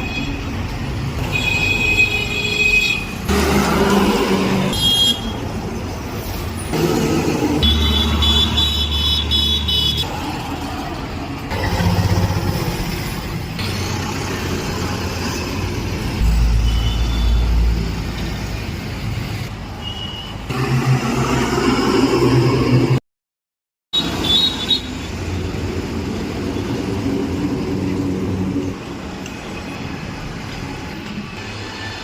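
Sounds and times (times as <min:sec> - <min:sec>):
traffic noise: 0:00.0 - 0:23.0, 0:23.9 - 0:32.0.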